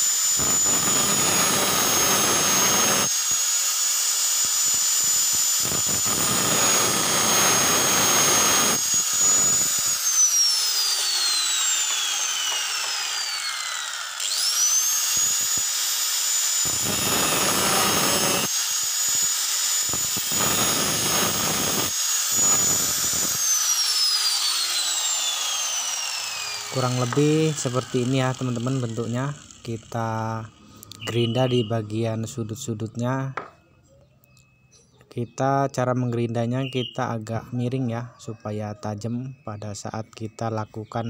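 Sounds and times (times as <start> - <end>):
angle grinder grinding metal: 0.0 - 33.6.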